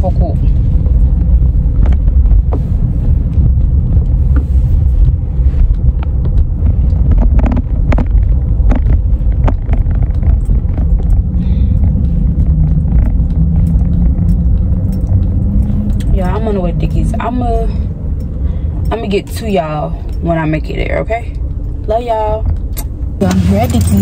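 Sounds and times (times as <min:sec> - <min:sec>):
road and engine rumble in car: 0:00.0 - 0:24.0.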